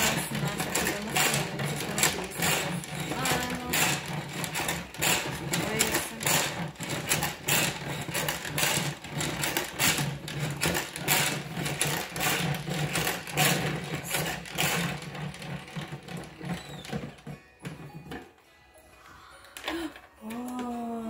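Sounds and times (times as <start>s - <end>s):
salad spinner whirring and clattering: 0.0s - 18.5s.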